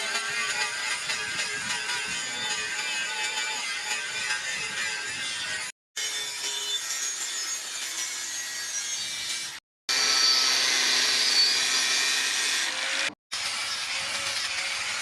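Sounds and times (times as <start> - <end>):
tool working rusted iron: 0.0 - 15.0.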